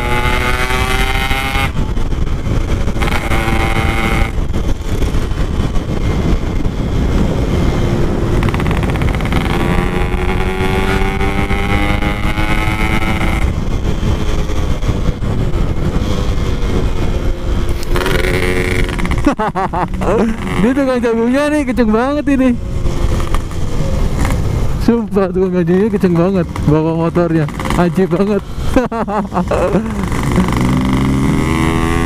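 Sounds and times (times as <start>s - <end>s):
two-stroke motorcycle engine revving: 0.0s - 22.0s, 25.5s - 32.0s
wind rumble on microphone: 0.0s - 32.0s.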